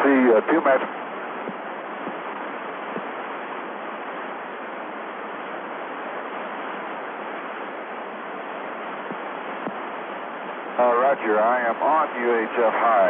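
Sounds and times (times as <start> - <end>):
radio channel hiss: 0.0 - 13.0.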